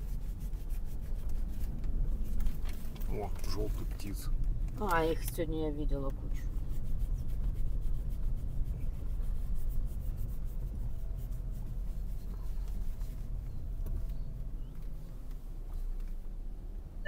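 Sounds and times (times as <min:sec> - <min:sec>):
car rumbling on dirt track: 0:00.0 - 0:17.0.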